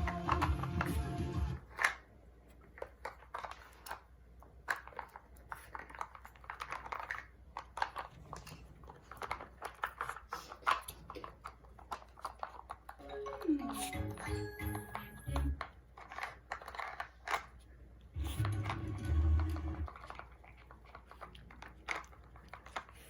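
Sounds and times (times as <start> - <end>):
plastic puzzle toy rattling: 0.0 - 1.0, 2.7 - 13.5, 15.6 - 23.0.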